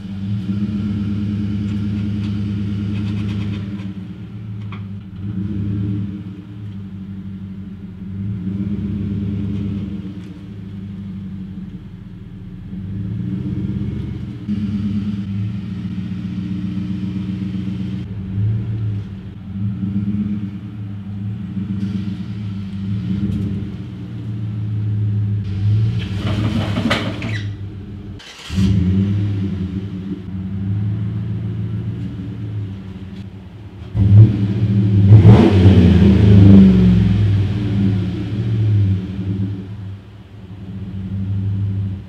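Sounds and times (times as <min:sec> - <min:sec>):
pickup truck engine rumbling: 0:00.0 - 0:42.0.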